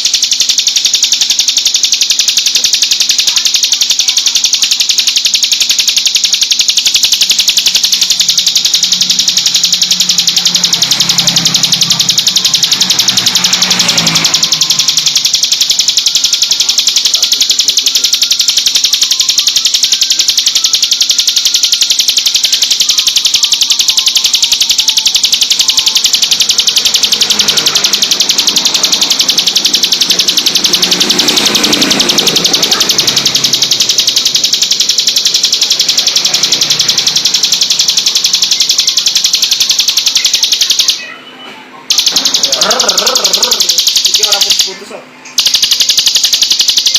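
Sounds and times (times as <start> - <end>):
bird singing rapid trill: 0.0 - 46.9.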